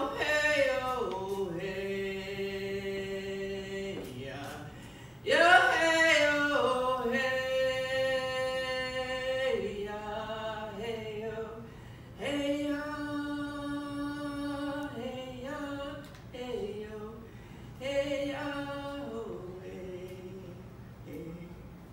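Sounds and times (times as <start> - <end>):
woman singing unaccompanied: 0.0 - 21.9.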